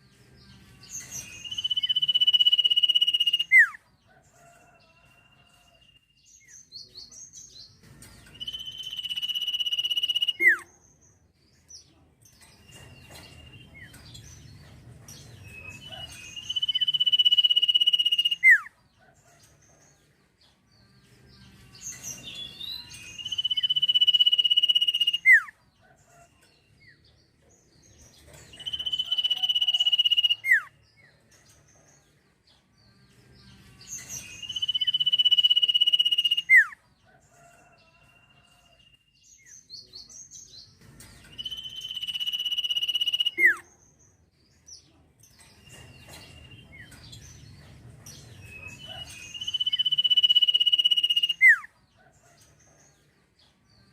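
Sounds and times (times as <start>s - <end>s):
songbird chatter and whistle: 0.0s - 20.0s, 21.0s - 32.1s, 32.8s - 53.0s.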